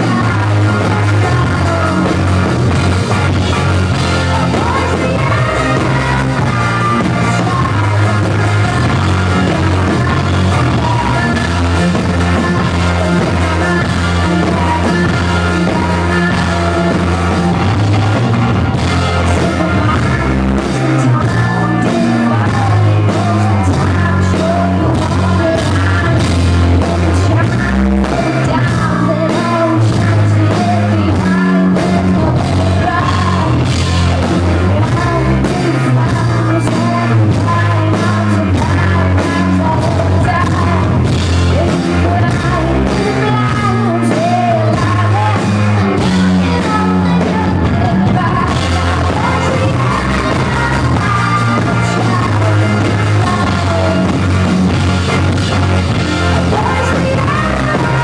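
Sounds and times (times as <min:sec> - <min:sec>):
electric bass: 0:00.0 - 0:58.0
keyboards: 0:00.0 - 0:58.0
steady drum beat: 0:00.0 - 0:58.0
woman singing lead: 0:00.0 - 0:58.0.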